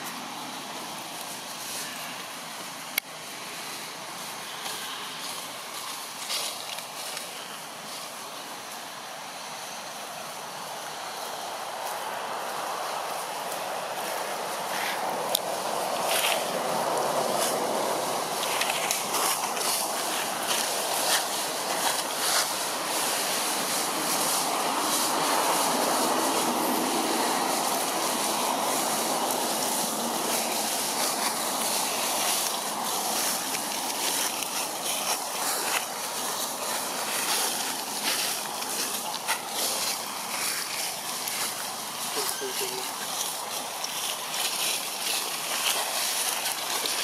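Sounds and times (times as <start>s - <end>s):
dry leaves crackling: 0.0s - 47.0s
rushing outdoor background noise: 0.0s - 47.0s.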